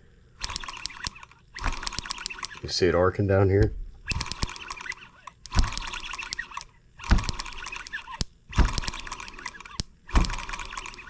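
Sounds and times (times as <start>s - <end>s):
engine being turned over: 0.4s - 2.6s, 4.1s - 11.0s
sharp ignition clicks: 0.4s - 2.7s, 4.1s - 11.0s.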